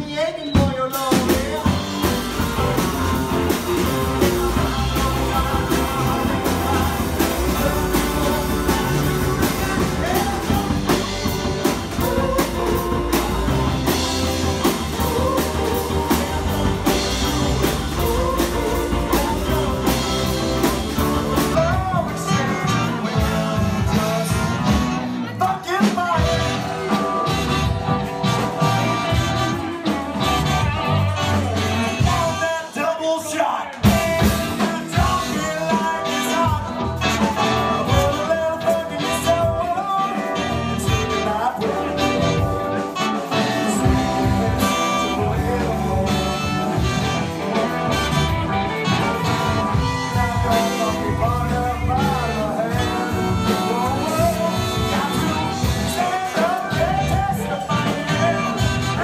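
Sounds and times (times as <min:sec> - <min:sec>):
guitar: 0:00.0 - 0:59.0
lead vocal singing: 0:00.0 - 0:59.0
live band playing: 0:00.0 - 0:59.0
brass horn section: 0:01.6 - 0:32.8, 0:33.9 - 0:59.0.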